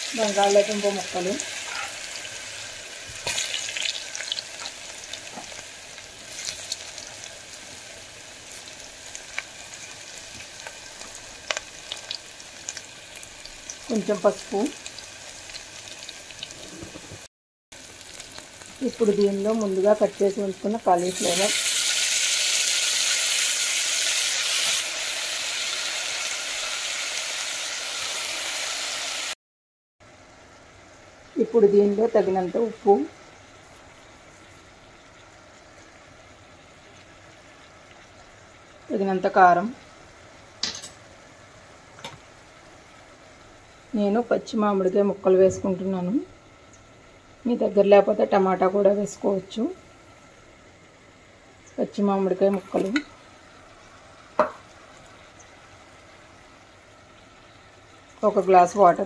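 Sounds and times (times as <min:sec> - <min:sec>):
food sizzling in hot oil: 0:00.0 - 0:29.4, 0:30.2 - 0:45.2, 0:51.6 - 0:59.0
sharp crackles of frying: 0:00.0 - 0:29.4, 0:30.0 - 0:45.2, 0:45.8 - 0:59.0.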